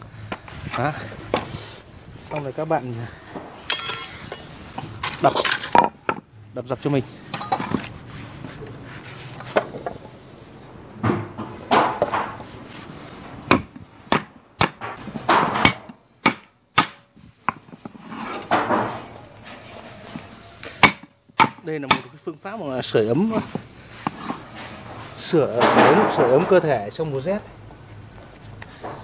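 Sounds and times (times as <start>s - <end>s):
rough scraping noises: 0.0s - 14.1s, 14.8s - 16.0s, 17.1s - 29.0s.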